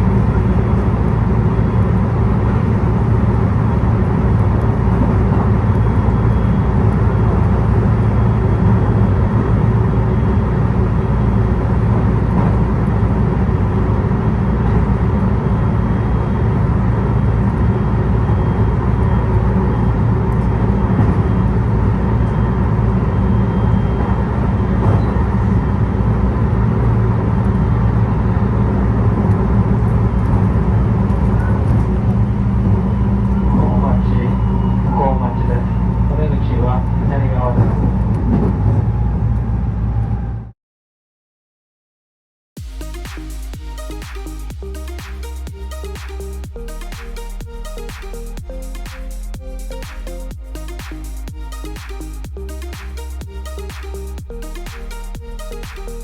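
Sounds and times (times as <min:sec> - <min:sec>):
road noise: 0:00.0 - 0:37.6, 0:42.6 - 0:56.0
vehicle engine hum: 0:00.0 - 0:40.5, 0:42.6 - 0:56.0.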